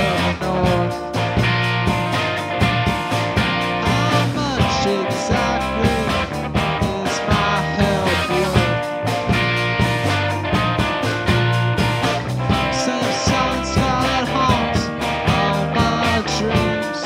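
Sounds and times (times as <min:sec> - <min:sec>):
garage rock band playing: 0:00.0 - 0:17.0.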